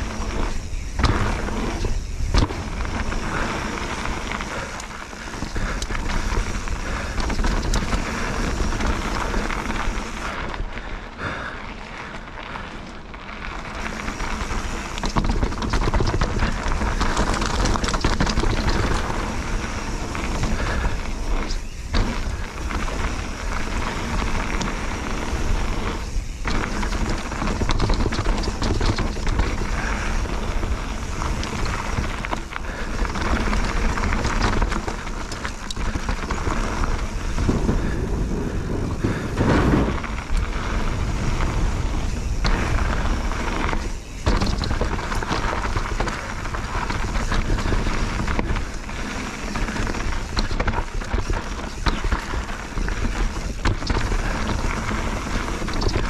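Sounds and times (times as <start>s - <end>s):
bike rattling: 0.0s - 56.0s
bike tyres rolling over stone: 0.0s - 56.0s.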